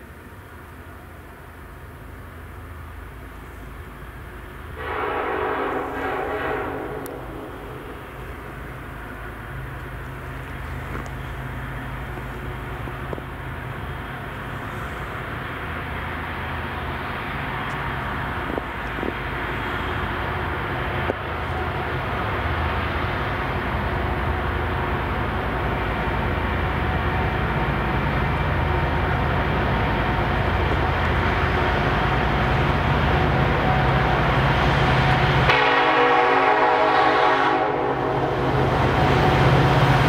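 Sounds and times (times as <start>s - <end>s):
locomotive engine rumble: 0.0s - 40.0s.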